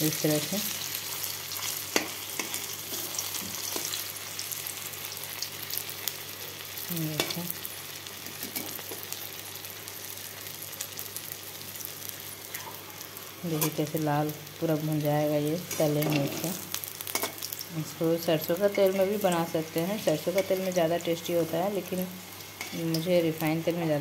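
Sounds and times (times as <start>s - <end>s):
oil sizzling with crackles: 0.0s - 24.0s.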